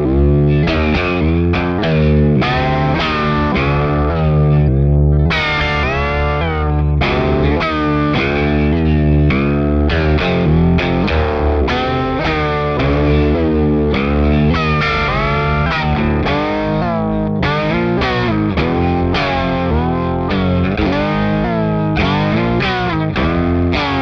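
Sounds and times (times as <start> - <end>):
electric guitar with vibrato effect: 0.0 - 24.0.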